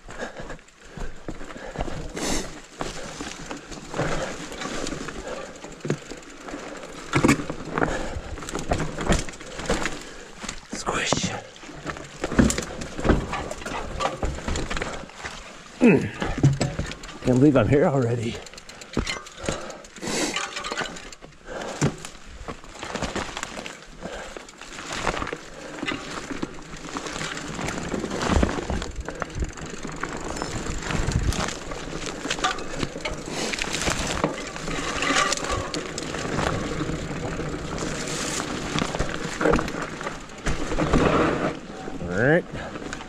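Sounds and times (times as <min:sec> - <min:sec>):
bike rattling over bumps: 0:00.0 - 0:43.0
tyres crunching over rock: 0:00.8 - 0:42.0.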